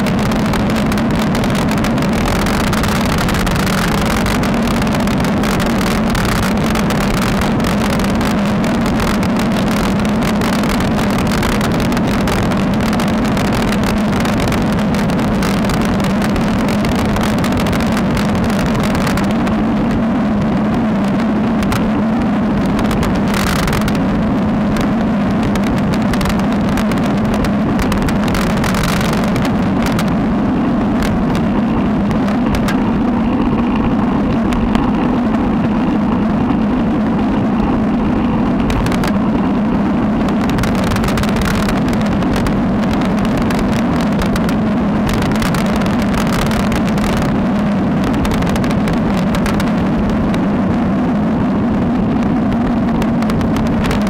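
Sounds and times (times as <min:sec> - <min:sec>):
road rumble: 0:00.0 - 0:54.0
wind rushing past microphone: 0:00.0 - 0:54.0.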